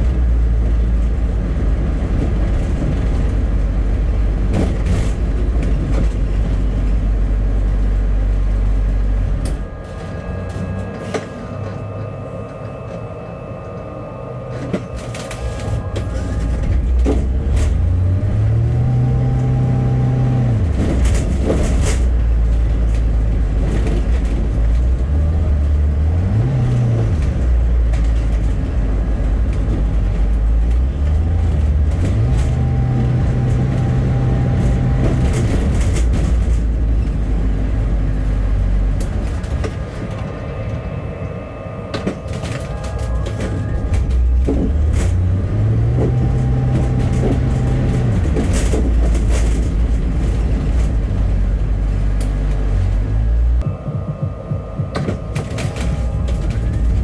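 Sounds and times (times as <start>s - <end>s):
interior rattles and knocks: 0.0s - 13.0s, 14.5s - 40.4s, 41.9s - 57.0s
bus engine accelerating: 0.0s - 57.0s.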